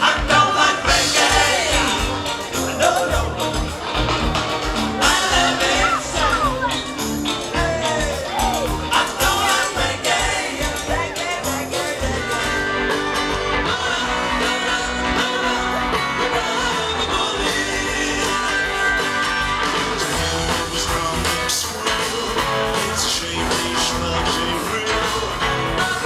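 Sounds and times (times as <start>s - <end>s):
electric guitar: 0.0s - 26.0s
rock band playing: 0.0s - 26.0s.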